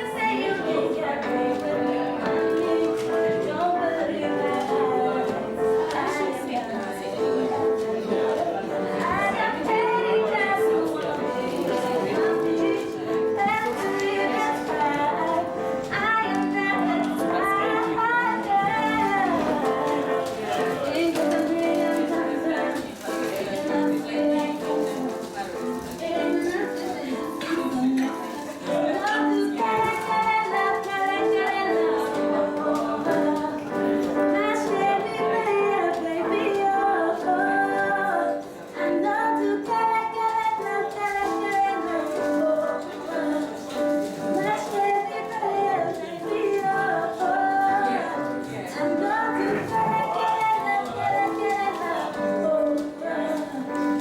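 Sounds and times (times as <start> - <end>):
sustained keyboard chords: 0.0 - 54.0
woman singing with instruments: 0.0 - 54.0.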